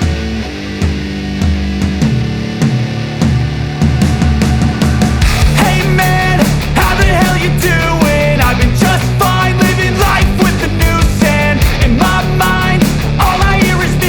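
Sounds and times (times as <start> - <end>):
bass line: 0.0 - 14.0
driving drum beat: 0.0 - 14.0
loud rock music: 0.0 - 14.0.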